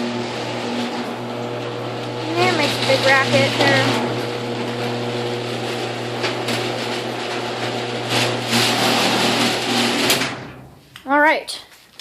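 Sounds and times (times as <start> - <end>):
garage door opener motor hum: 0.0 - 10.8
garage door rattling: 0.2 - 10.8.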